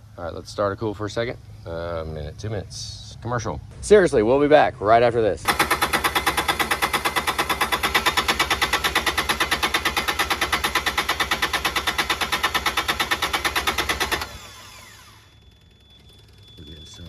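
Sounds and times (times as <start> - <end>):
diesel engine cranking without firing: 0.0 - 17.0.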